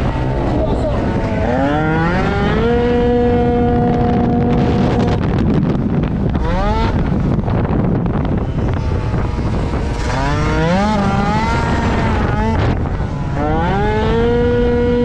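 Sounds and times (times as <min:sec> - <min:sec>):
scooter engine revving: 0:00.0 - 0:15.0
wind noise on microphone: 0:00.0 - 0:15.0.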